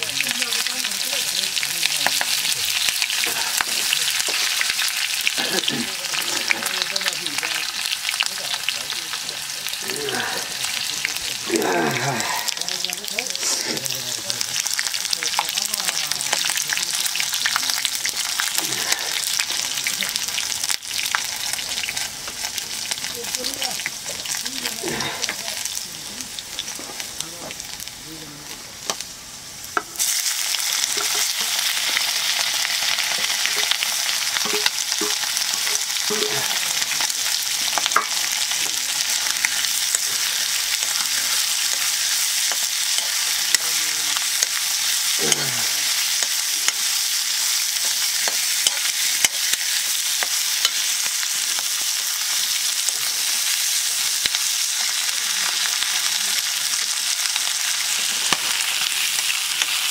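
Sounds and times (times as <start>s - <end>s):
meat sizzling in a wok: 0.0s - 59.9s.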